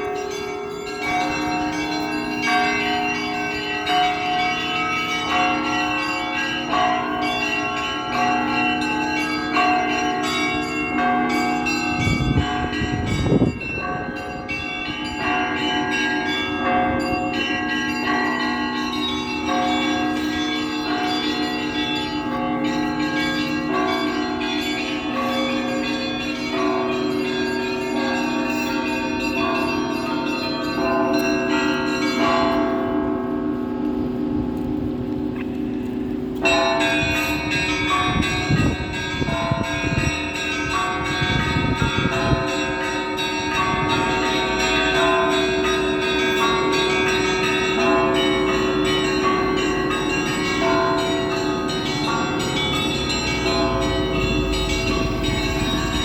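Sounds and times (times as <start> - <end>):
church bells pealing: 0.0 - 56.0.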